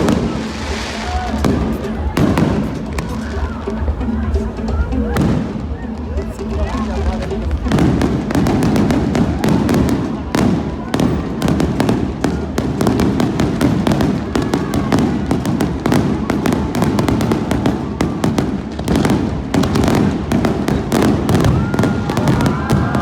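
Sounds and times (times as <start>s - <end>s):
fireworks banging and crackling: 0.0s - 23.0s.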